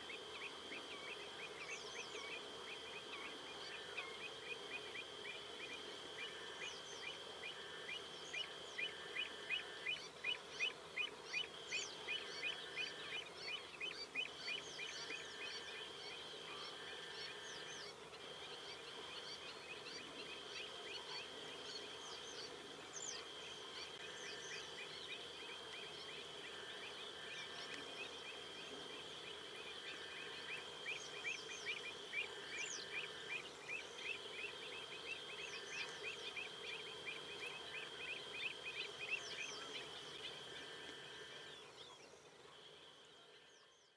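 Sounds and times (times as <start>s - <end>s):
birds chirping: 0.0s - 43.9s
steady high hum: 0.0s - 43.9s.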